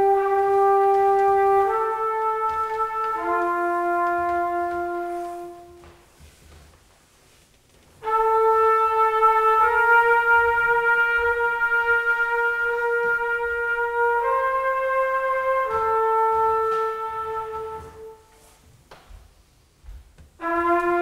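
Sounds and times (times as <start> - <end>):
trumpet long held notes: 0.0 - 6.0, 8.0 - 18.5, 20.4 - 21.0.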